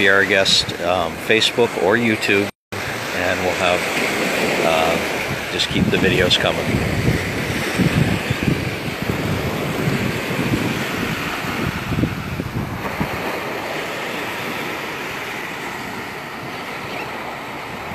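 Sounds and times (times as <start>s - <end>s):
surf washing onto sand: 0.0s - 17.9s
wind buffeting microphone: 2.8s - 17.9s.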